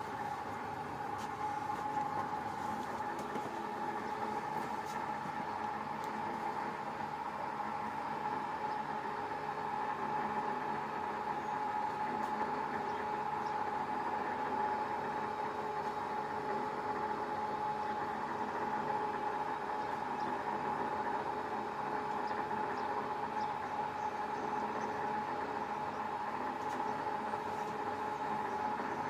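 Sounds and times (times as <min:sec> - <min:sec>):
winch motor humming and whining: 0:00.0 - 0:29.0.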